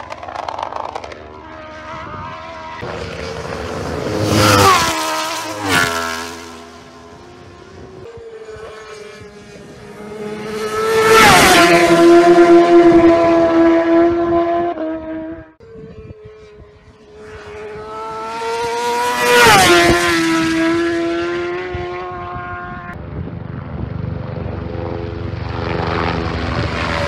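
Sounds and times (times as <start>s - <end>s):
race motorcycles passing: 0.0s - 27.0s.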